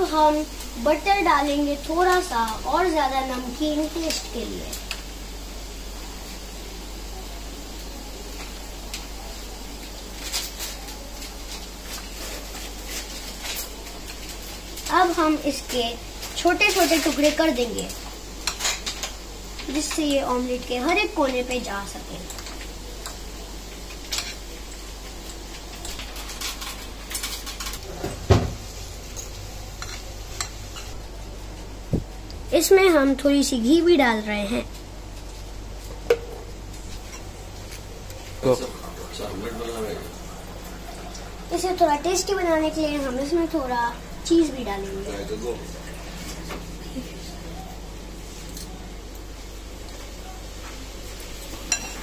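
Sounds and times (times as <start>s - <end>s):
background hiss and hum: 0.0s - 52.0s.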